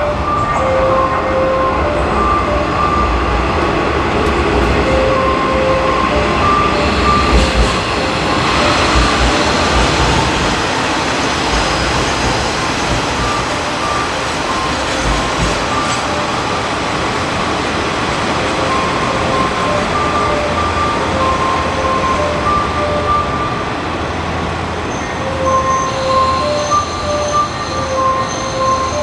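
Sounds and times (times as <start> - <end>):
diesel railcar engine and wheels: 0.0 - 29.0.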